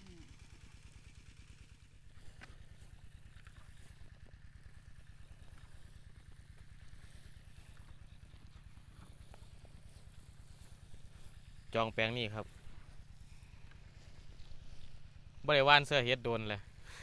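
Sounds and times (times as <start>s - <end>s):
small engine puttering: 0.0s - 15.4s.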